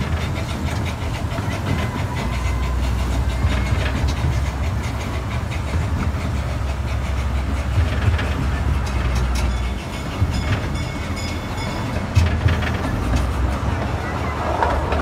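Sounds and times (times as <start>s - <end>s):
train rumbling on track: 0.0s - 15.0s
wheels clicking over rail joints: 0.0s - 15.0s.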